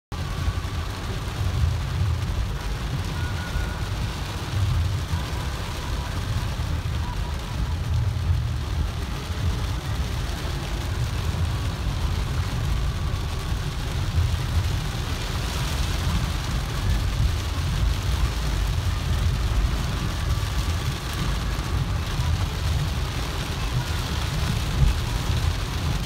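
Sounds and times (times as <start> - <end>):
engine and road rumble: 0.0 - 26.0
rain and wet tyres hiss: 0.1 - 26.0.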